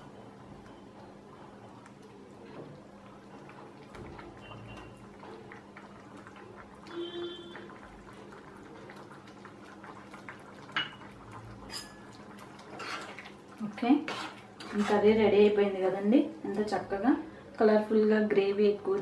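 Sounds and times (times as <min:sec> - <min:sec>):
curry bubbling and popping: 0:00.0 - 0:19.0.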